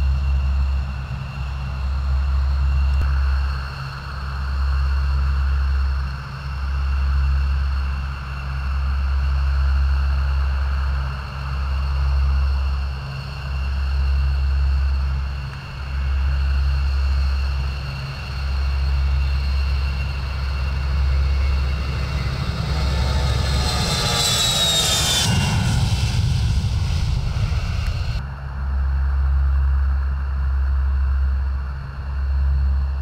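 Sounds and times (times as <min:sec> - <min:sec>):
jet engines rumbling and whining: 0:00.0 - 0:33.0.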